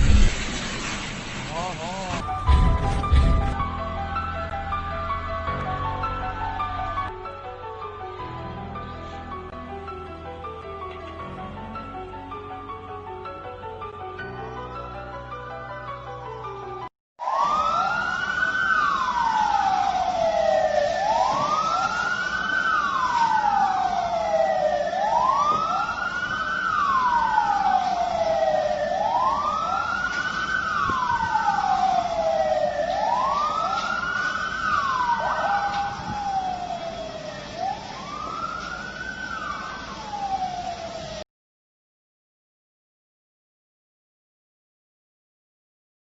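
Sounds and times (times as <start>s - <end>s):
emergency siren wailing: 0.0s - 15.1s, 16.6s - 41.2s.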